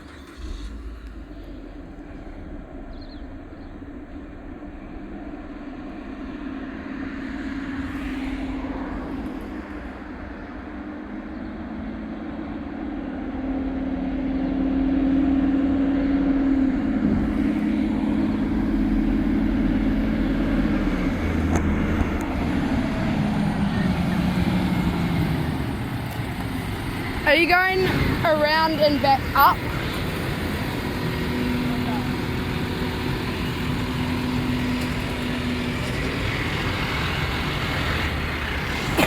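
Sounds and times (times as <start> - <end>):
truck engine running: 0.0 - 39.0.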